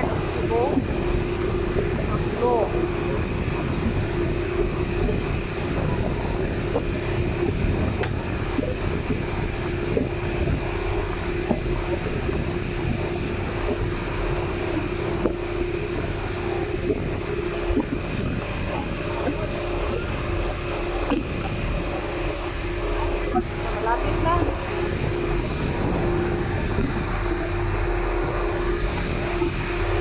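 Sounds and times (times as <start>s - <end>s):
boat engine humming: 0.0s - 30.0s
wind buffeting microphone: 0.0s - 30.0s.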